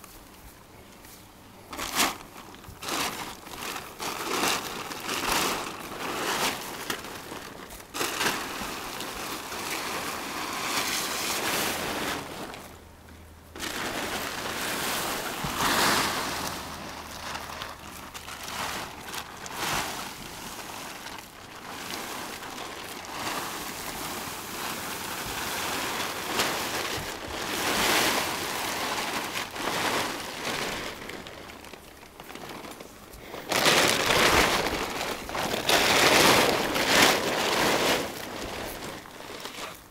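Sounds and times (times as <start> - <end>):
plastic tarp rustling and crinkling: 0.0 - 12.9, 13.5 - 39.9.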